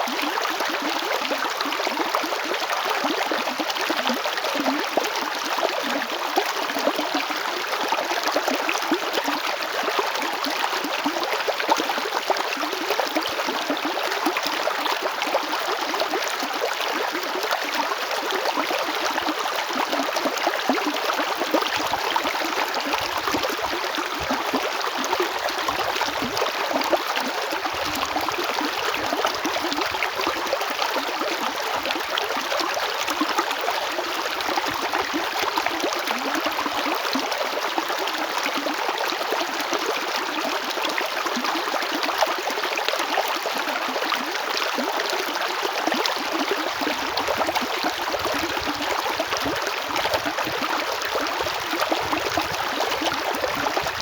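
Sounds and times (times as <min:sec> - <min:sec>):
river flowing over stones: 0:10.4 - 0:54.0.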